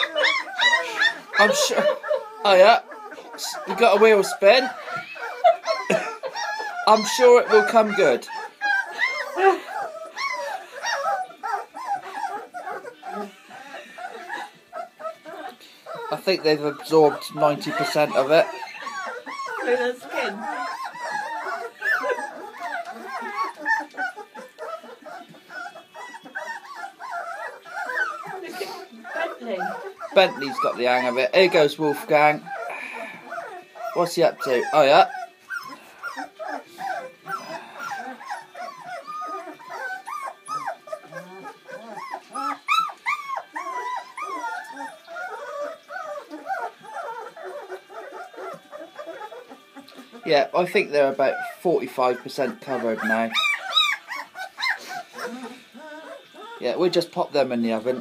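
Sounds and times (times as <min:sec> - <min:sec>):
puppies whimpering and yipping: 0:00.0 - 0:58.0.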